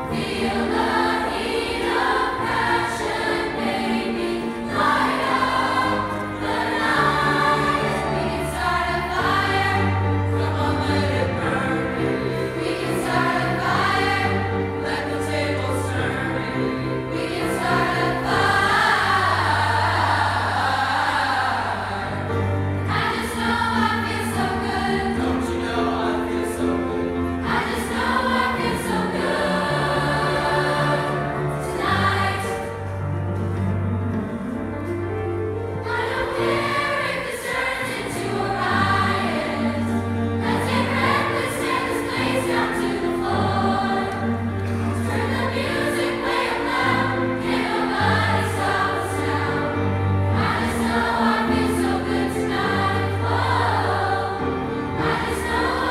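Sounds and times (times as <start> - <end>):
youth choir singing: 0.0 - 33.1, 35.8 - 55.9.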